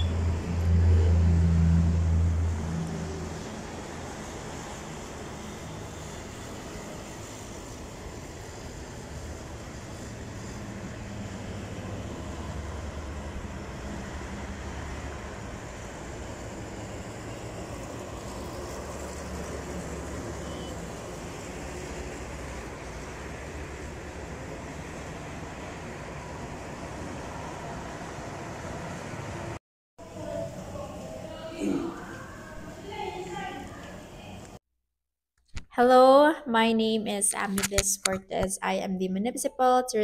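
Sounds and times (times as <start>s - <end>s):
distant road traffic rumble: 0.0s - 34.6s.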